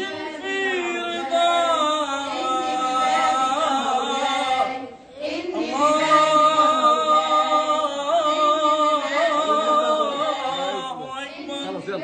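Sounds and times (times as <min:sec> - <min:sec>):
man singing devotional chant: 0:00.0 - 0:04.7, 0:05.7 - 0:12.0.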